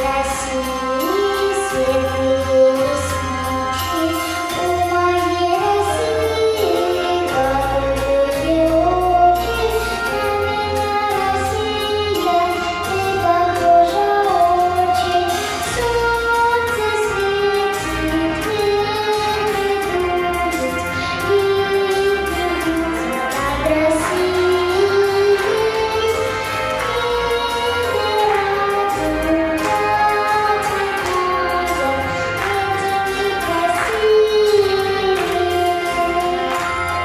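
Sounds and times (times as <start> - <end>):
instrumental accompaniment with beat: 0.0 - 37.0
young woman singing: 0.0 - 37.0.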